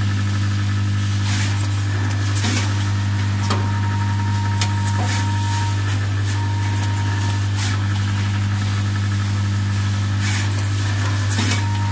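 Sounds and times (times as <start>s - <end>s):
machine low hum: 0.0s - 11.9s.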